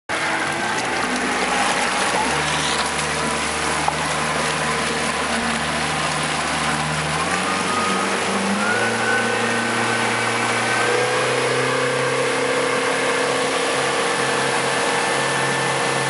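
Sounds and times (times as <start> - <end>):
motorboat engine running: 0.1 - 16.0
rushing water: 0.1 - 16.0.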